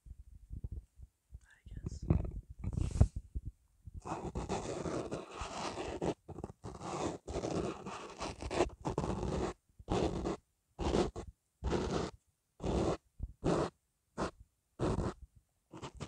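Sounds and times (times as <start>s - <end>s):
fingers scratching microphone windscreen: 2.0s - 3.2s, 4.0s - 16.0s.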